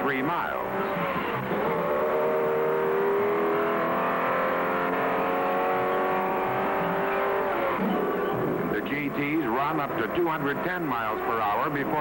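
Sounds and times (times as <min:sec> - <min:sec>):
racing engine at high revs: 0:00.0 - 0:12.0.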